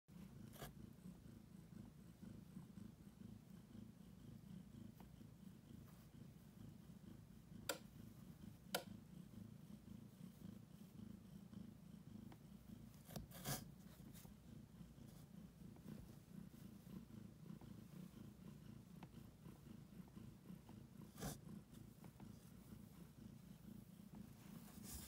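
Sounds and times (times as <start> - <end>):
cat purring: 0.1 - 25.0.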